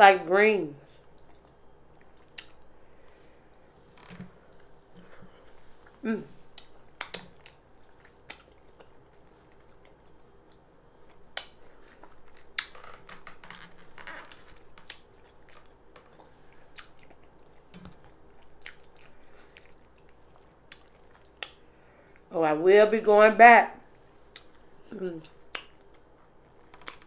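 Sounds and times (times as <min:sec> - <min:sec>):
person chewing with mouth smacks: 0:01.0 - 0:02.8, 0:03.4 - 0:22.3, 0:24.2 - 0:27.0.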